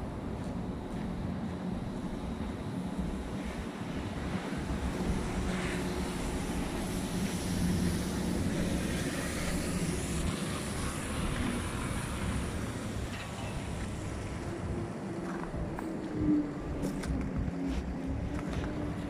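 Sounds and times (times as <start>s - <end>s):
bus engine humming: 0.0s - 19.0s
street noise: 0.0s - 19.0s.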